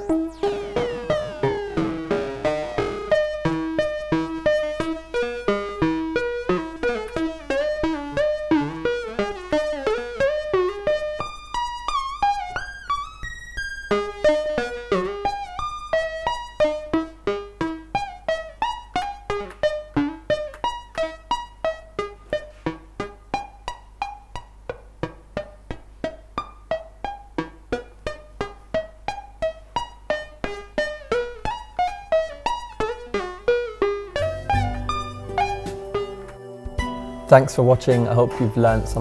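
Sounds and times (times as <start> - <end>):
synthesizer plucked notes: 0.0 - 39.0.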